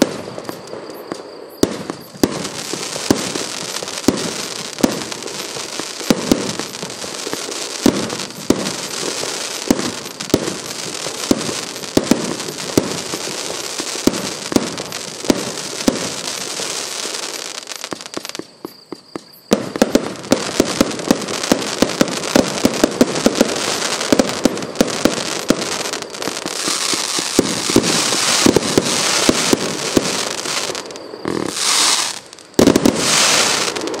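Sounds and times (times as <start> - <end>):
crackling firework bursts: 0.0 - 34.0.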